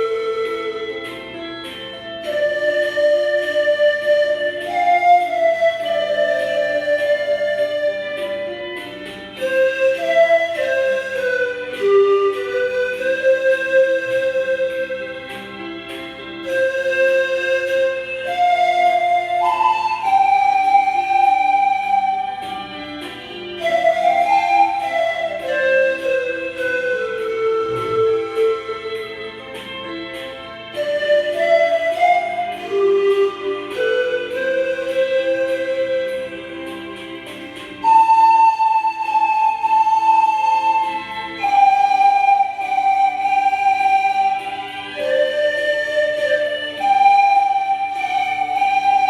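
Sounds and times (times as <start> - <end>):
pan flutes playing slow melody: 0.0 - 49.0
sustained lower accompaniment: 0.0 - 49.0.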